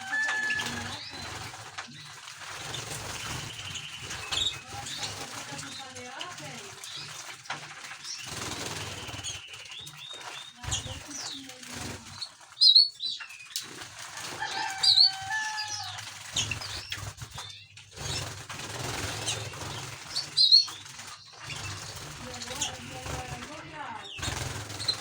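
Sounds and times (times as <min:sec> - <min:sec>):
finches chirping: 0:00.0 - 0:25.0.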